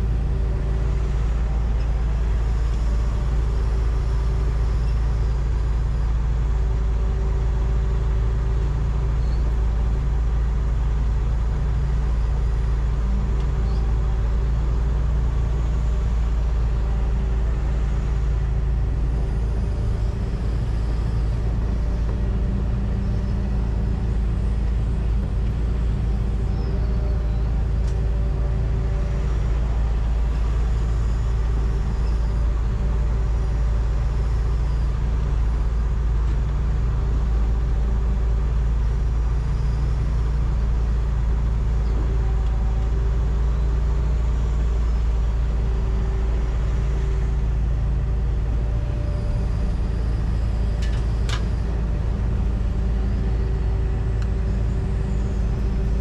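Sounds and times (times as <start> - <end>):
excavator diesel engine droning: 0.0 - 56.0
faint steady whine: 0.0 - 56.0.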